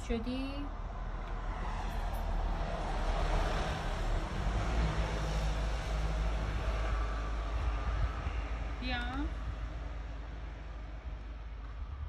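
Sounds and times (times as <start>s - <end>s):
vehicle passing rumble: 0.0s - 12.0s.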